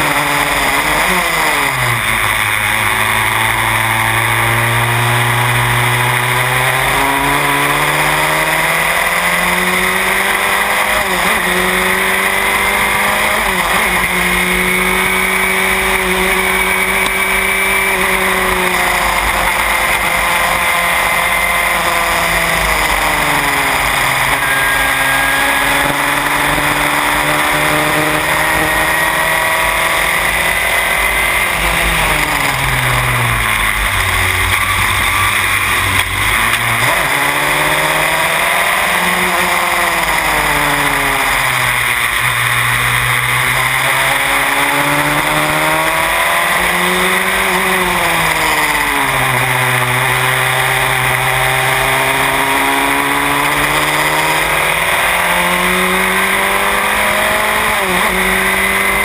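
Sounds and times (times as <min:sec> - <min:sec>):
racing car engine: 0:00.0 - 0:59.0.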